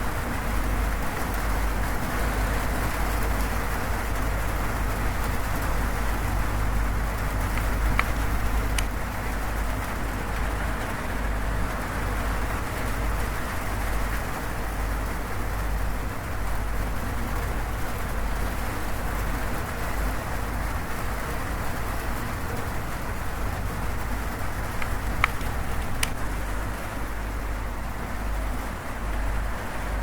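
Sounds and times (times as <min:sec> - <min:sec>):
rain on a metal roof: 0:00.0 - 0:30.0.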